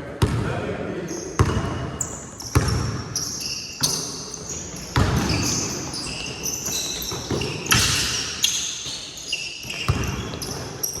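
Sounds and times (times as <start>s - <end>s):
basketball bouncing on gym court: 0.2s - 0.5s, 1.4s - 9.0s, 9.6s - 10.8s
sneakers squeaking on floor: 1.1s - 11.0s.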